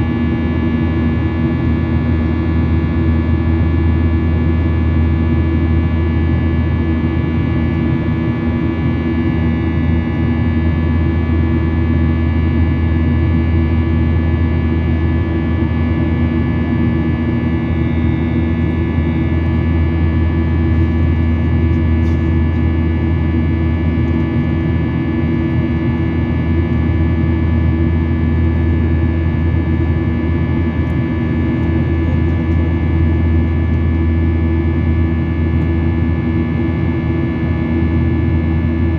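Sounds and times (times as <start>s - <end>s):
airliner engine drone: 0.0s - 38.9s
constant low hum: 0.0s - 38.9s.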